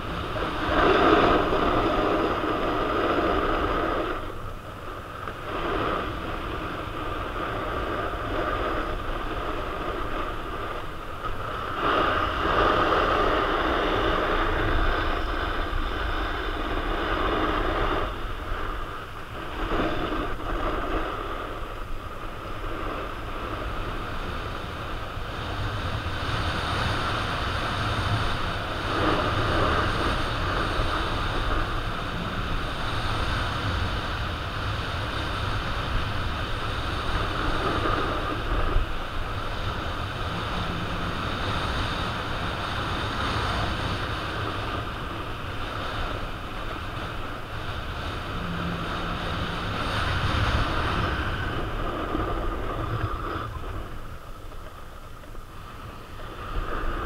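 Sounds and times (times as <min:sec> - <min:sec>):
skis scraping over packed snow: 0:00.0 - 0:57.0
wind buffeting microphone: 0:00.0 - 0:57.0.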